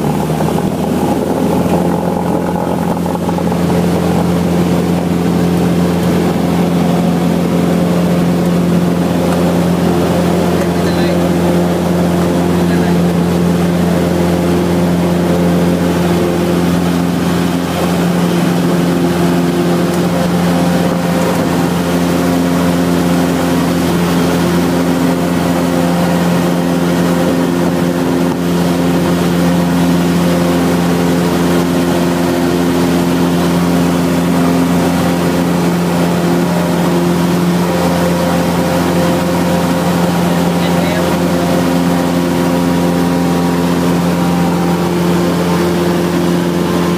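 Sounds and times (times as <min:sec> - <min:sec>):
propeller plane engine drone: 0:00.0 - 0:46.9.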